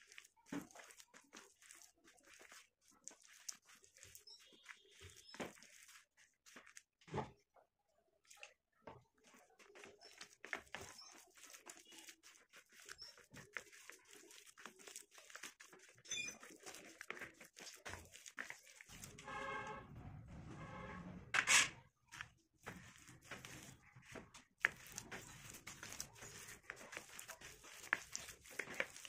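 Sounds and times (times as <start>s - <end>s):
hands kneading wet clay: 0.0s - 7.4s, 8.2s - 19.7s, 22.0s - 29.0s.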